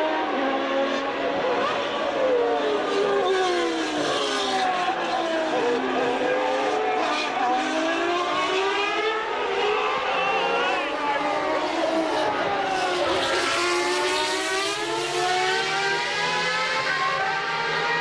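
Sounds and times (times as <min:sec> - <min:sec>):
racing car engines: 0:00.0 - 0:18.0.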